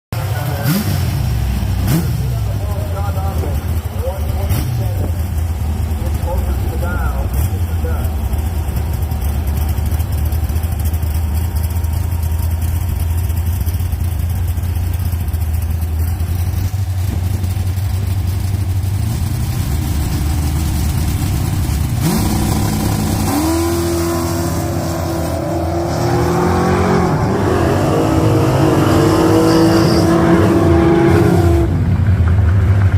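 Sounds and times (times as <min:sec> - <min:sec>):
car engines revving: 0:00.2 - 0:32.9.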